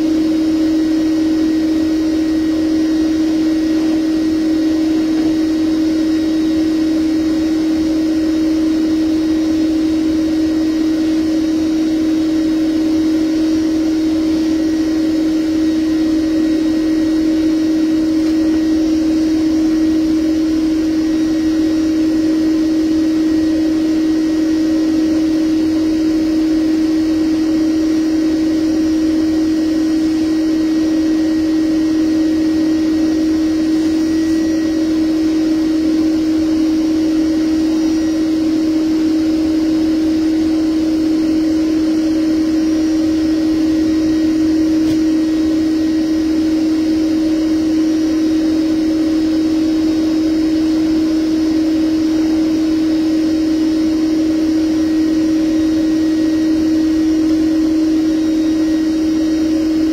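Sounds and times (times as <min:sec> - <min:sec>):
vacuum motor humming: 0:00.0 - 0:59.9.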